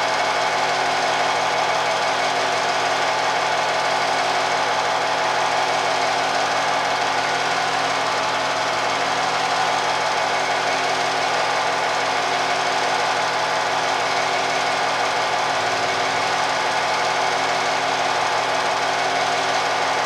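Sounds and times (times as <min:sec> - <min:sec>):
film projector clattering: 0:00.0 - 0:20.0.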